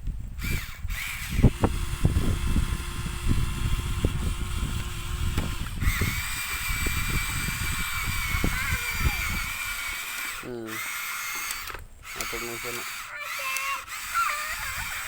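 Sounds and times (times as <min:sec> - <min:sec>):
small electric motor whining: 0:00.2 - 0:15.0.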